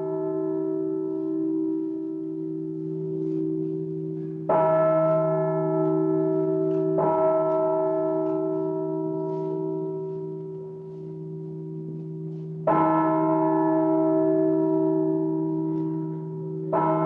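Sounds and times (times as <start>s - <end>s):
low bell hum: 0.0s - 17.0s.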